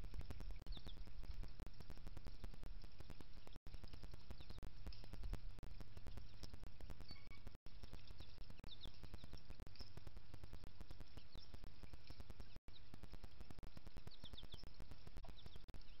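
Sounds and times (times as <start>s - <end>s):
dense crackle of clicks: 0.0s - 16.0s
small birds chirping: 0.0s - 16.0s.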